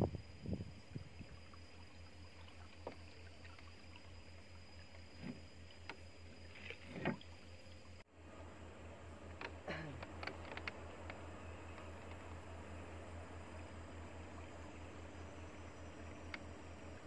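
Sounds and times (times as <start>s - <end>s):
faint pulsing low hum: 0.0s - 17.0s.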